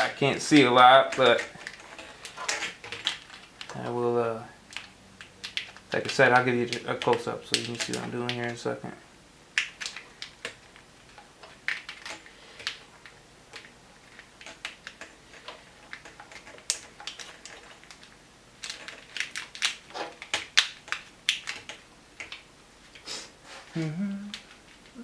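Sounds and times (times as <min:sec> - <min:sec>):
wires clicking into plastic loom: 0:00.0 - 0:03.9, 0:04.6 - 0:08.6, 0:09.6 - 0:22.4.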